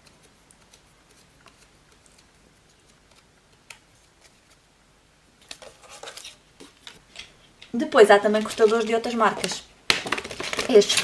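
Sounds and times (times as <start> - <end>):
paper card rustling: 0.0 - 4.7, 5.4 - 7.5, 8.2 - 11.0
paper crinkling: 0.0 - 4.7, 5.4 - 7.4, 8.2 - 11.0.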